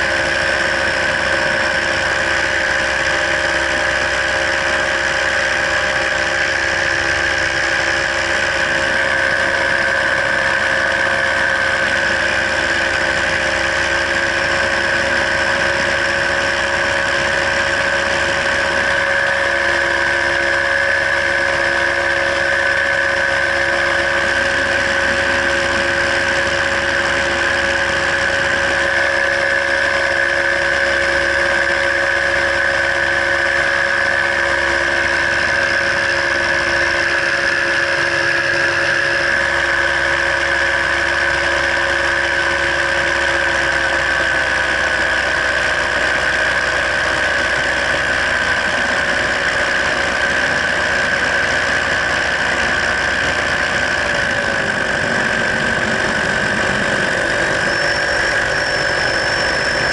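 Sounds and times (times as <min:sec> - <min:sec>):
paramotor engine droning: 0:00.0 - 0:59.9.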